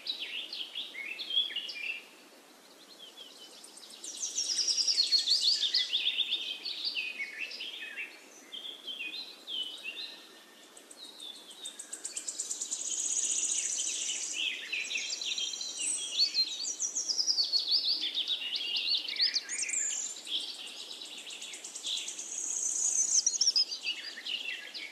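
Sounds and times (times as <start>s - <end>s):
birds singing: 0.0s - 24.9s
faint hiss: 0.0s - 24.9s.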